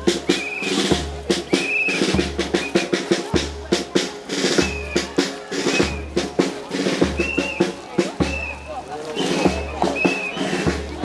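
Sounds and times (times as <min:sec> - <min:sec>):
bass drum beat: 0:00.0 - 0:11.0
snare drum rolls: 0:00.0 - 0:11.0.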